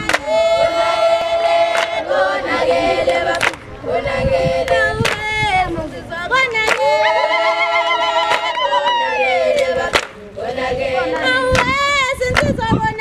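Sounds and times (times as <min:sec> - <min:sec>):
women and girls singing together: 0:00.0 - 0:13.0.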